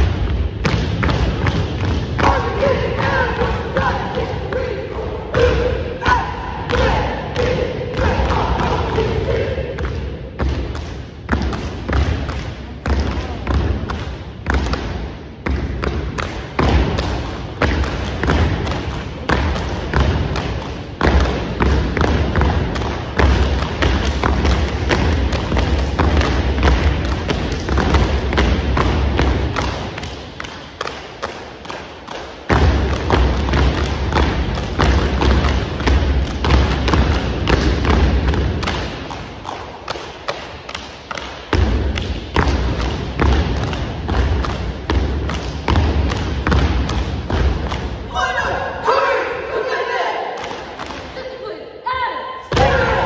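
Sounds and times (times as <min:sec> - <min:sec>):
stomps and hand slaps: 0:00.0 - 0:04.7, 0:09.8 - 0:48.1, 0:50.3 - 0:51.2.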